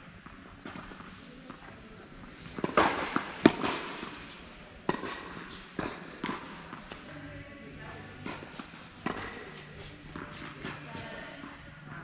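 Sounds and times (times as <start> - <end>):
tennis ball struck by rackets: 0.3 - 7.1, 8.2 - 11.1.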